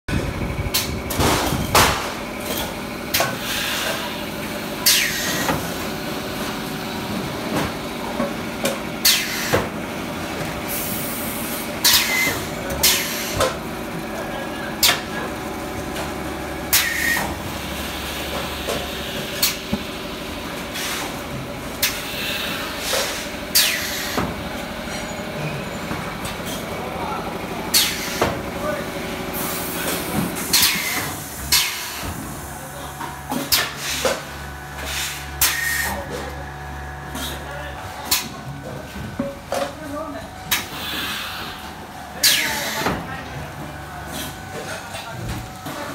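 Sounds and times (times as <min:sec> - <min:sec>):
packing machine humming: 0:00.1 - 0:45.9.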